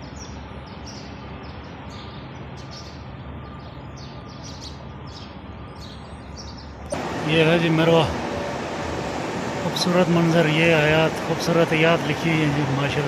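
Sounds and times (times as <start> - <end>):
open-air background hiss: 0.0 - 13.0
small birds chirping: 0.0 - 13.0.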